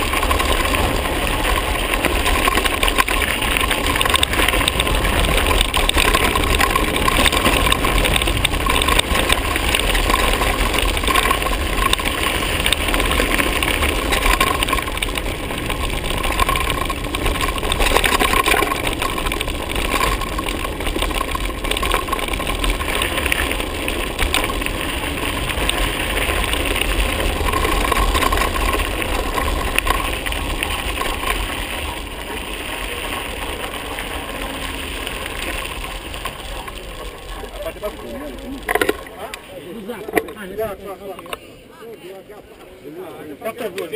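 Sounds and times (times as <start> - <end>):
bike tyres crunching on gravel: 0.0 - 41.7.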